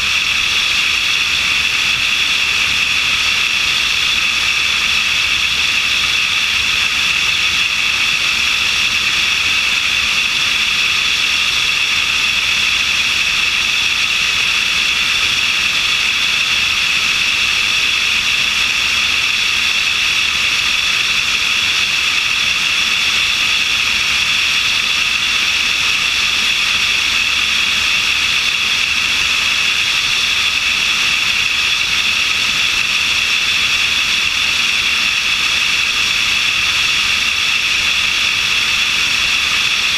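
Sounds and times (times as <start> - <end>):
light aircraft engine: 0.0 - 39.9.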